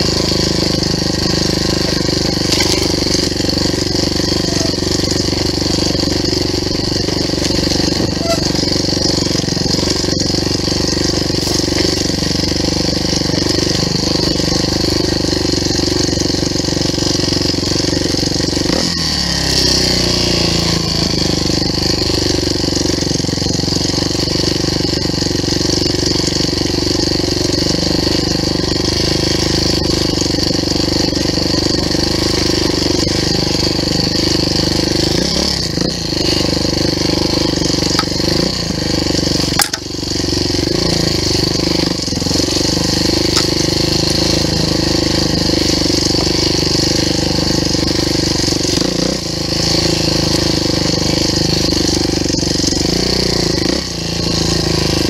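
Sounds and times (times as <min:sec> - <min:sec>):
motorcycle engine under throttle: 0:00.0 - 0:55.0.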